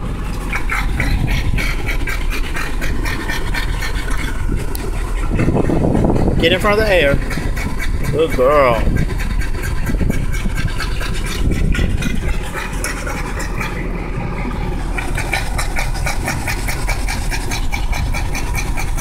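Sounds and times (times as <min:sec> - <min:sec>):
air conditioning hum: 0:00.0 - 0:19.0
car engine idling: 0:00.0 - 0:19.0
dog panting rapidly: 0:00.2 - 0:19.0.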